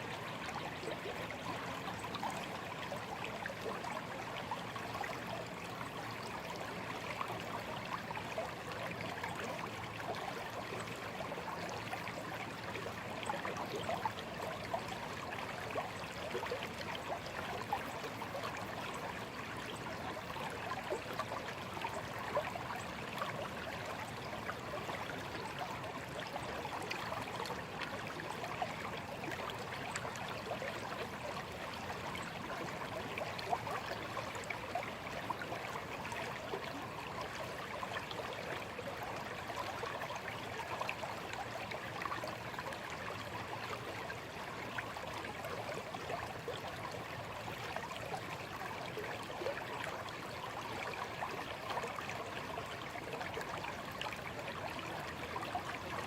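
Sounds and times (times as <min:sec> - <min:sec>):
shallow stream flowing: 0:00.0 - 0:56.0.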